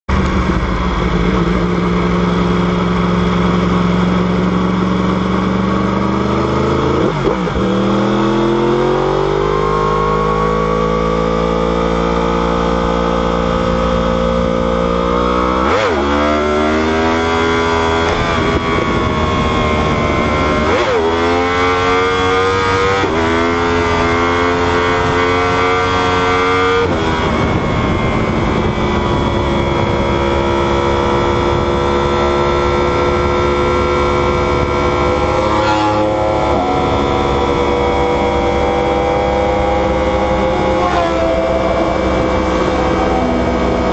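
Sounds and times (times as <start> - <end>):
motorcycle engine revving through gears: 0.1 - 43.9.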